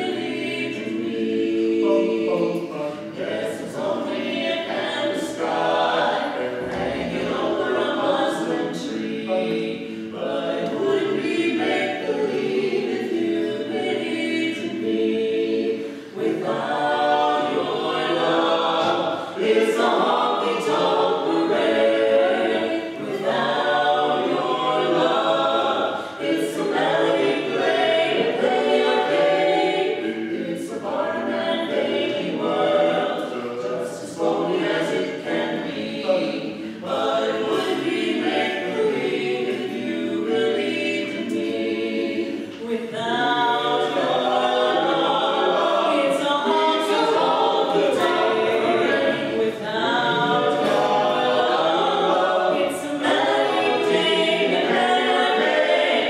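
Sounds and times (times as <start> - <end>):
a cappella harmony singing: 0.0 - 56.0.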